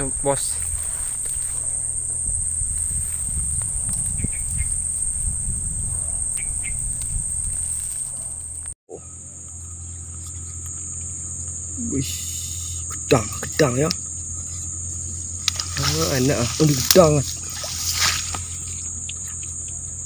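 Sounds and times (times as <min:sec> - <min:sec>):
insects shrilling: 0:00.0 - 0:20.0
low rumble: 0:00.0 - 0:20.0.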